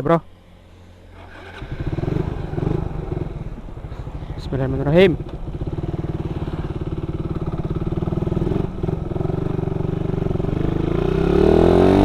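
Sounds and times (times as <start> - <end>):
motorcycle exhaust revving: 1.1 - 12.0.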